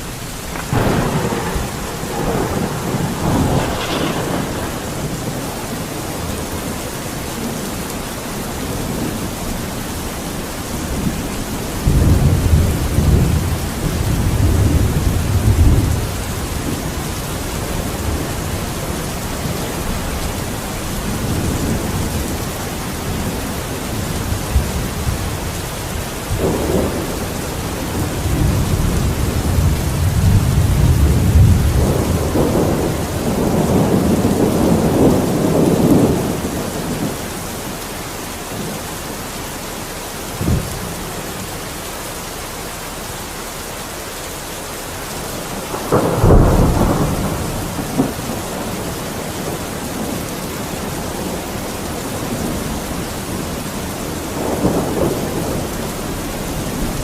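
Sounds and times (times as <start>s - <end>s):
rolling thunder: 0.0s - 37.9s, 40.2s - 41.5s, 45.0s - 57.0s
heavy rainfall: 0.0s - 57.0s.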